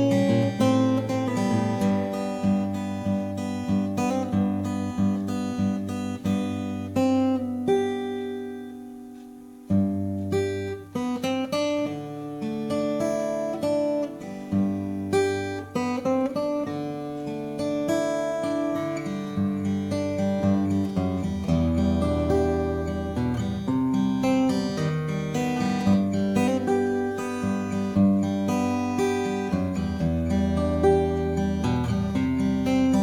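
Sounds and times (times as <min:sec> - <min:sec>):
acoustic guitar strummed chords: 0:00.0 - 0:33.0.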